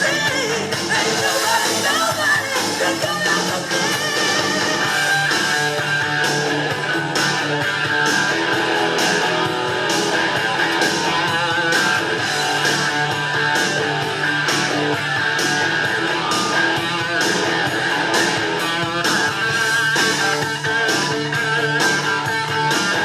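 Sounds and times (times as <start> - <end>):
guitar rock music: 0.0 - 23.0.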